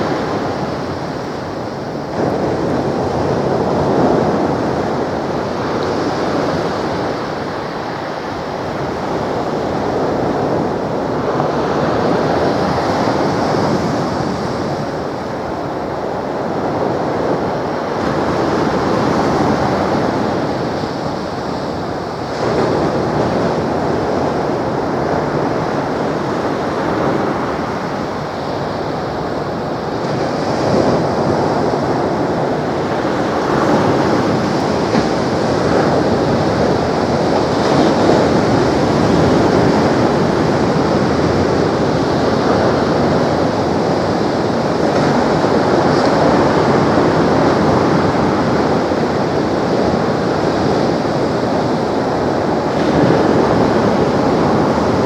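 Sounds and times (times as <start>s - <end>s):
surf breaking on shore: 0.0s - 55.0s.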